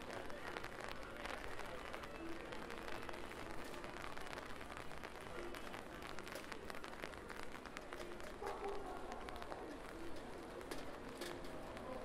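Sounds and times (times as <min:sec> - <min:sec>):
rain on city street: 0:00.0 - 0:12.0.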